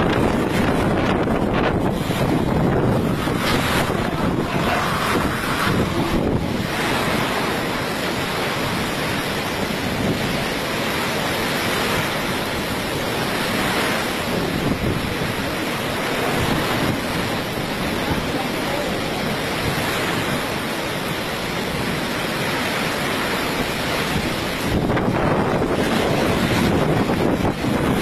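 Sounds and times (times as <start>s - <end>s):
storm waves: 0.0s - 28.0s
strong wind on microphone: 0.0s - 28.0s.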